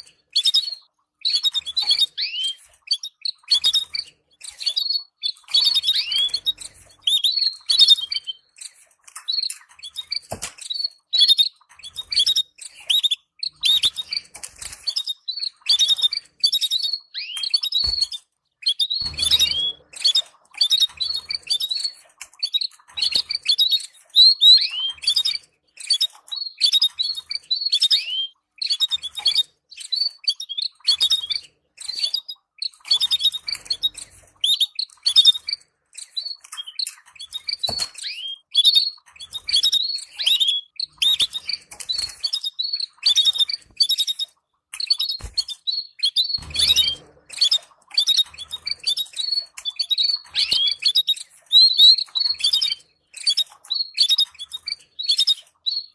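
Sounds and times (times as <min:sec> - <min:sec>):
canaries chirping: 0:00.0 - 0:55.9.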